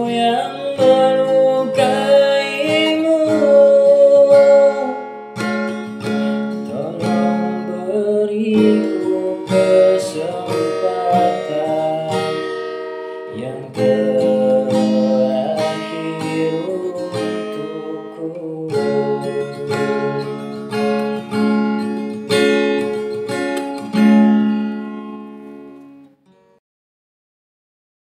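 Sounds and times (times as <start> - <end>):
acoustic guitar strumming chords: 0.0 - 26.6.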